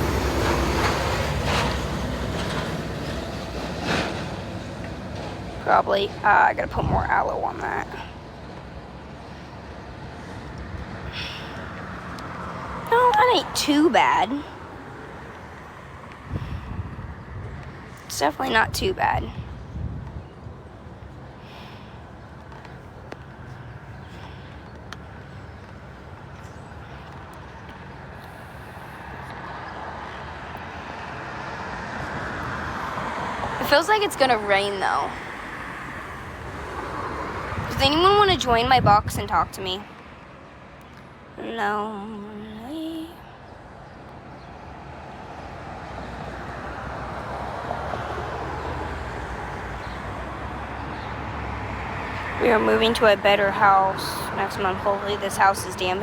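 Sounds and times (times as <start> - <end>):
vehicle passing: 0.0 - 8.0, 9.9 - 40.7, 44.8 - 56.0
outdoor background noise: 0.0 - 56.0.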